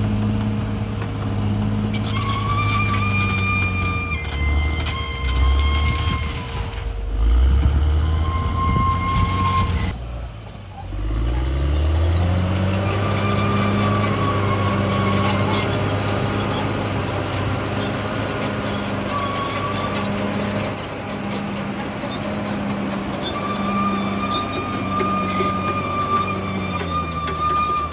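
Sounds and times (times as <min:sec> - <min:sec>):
bulldozer diesel engine: 0:00.0 - 0:27.9
tracks squealing: 0:00.0 - 0:27.9.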